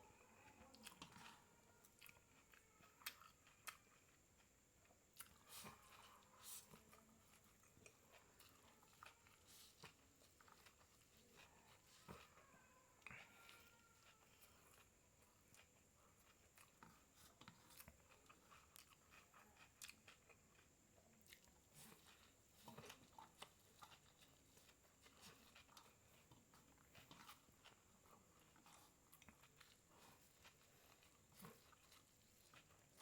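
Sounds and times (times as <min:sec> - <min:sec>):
person chewing noodles: 0:00.0 - 0:33.0.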